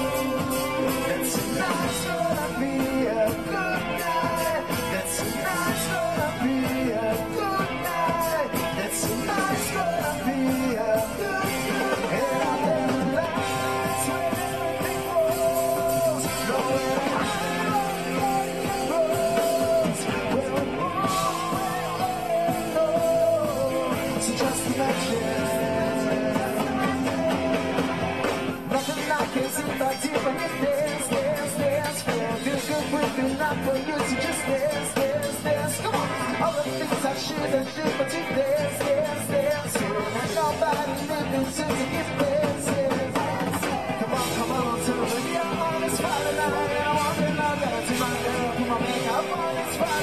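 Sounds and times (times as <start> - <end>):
bass guitar: 0.0 - 50.0
drums: 0.0 - 50.0
electric guitar: 0.0 - 50.0
man singing: 0.0 - 50.0.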